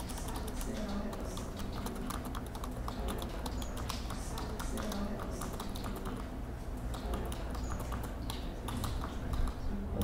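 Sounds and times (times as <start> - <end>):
keyboard typing clicks: 0.0 - 6.3, 6.9 - 9.6
low steady hum: 0.0 - 10.0.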